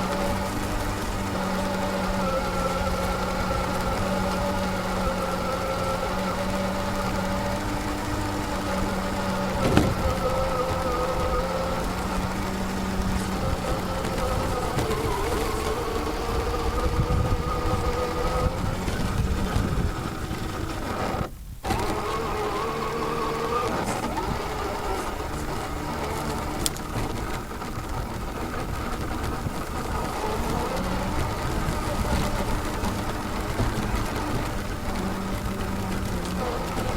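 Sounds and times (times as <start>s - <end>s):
electric motor whining: 0.0s - 36.9s
rough rolling noise: 0.0s - 36.9s.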